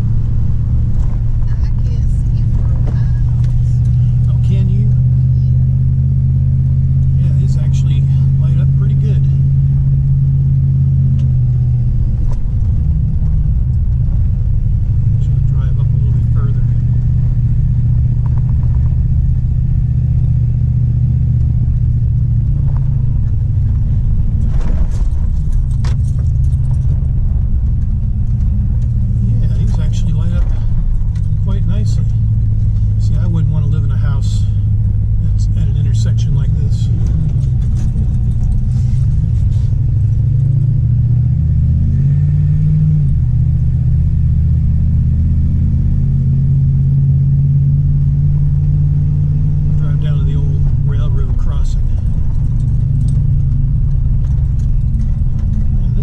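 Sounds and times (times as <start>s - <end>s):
truck engine and road drone: 0.0s - 56.0s.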